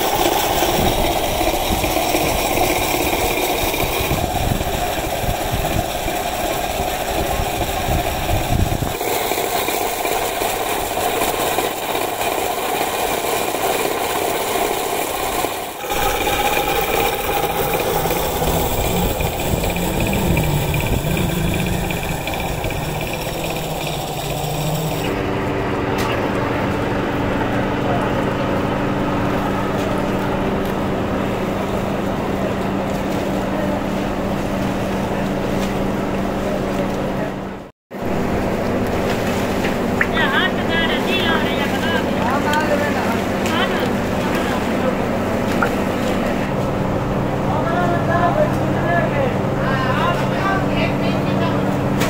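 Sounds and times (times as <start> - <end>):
mill machinery running loudly: 0.0 - 52.0.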